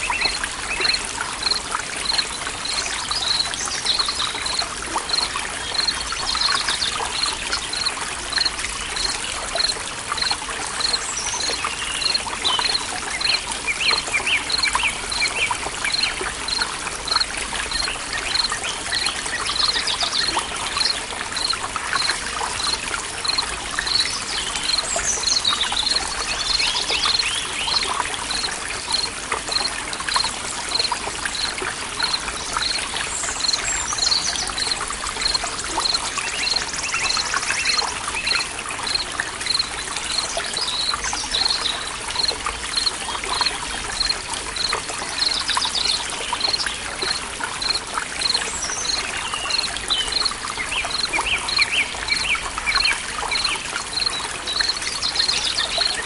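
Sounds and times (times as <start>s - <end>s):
water trickling in a stream: 0.0s - 56.0s.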